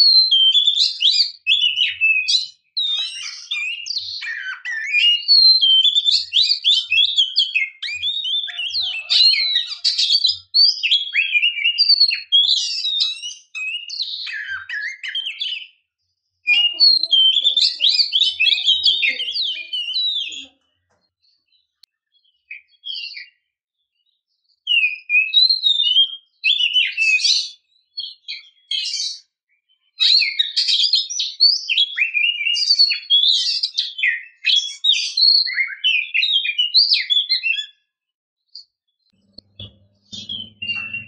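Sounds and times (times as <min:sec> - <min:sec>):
bird singing whistles and chirps: 0:00.0 - 0:20.6, 0:21.2 - 0:37.9, 0:38.6 - 0:41.0.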